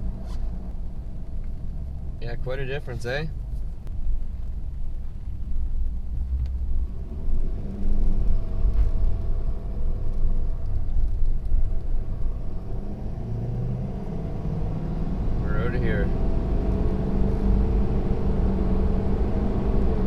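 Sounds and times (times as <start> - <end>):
diesel truck engine rumble: 0.0 - 20.0
road noise: 0.0 - 20.0.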